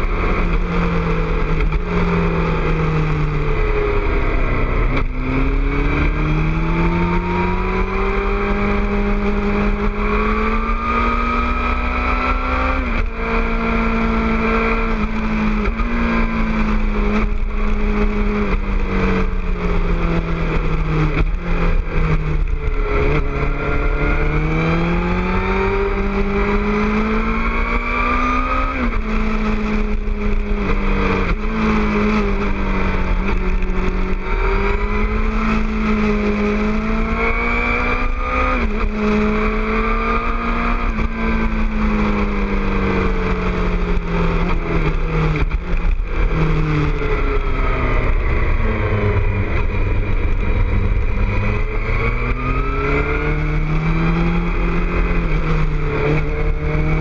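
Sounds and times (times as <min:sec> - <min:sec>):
motorcycle engine revving: 0:00.0 - 0:57.0
wind rumbling on microphone: 0:00.0 - 0:57.0.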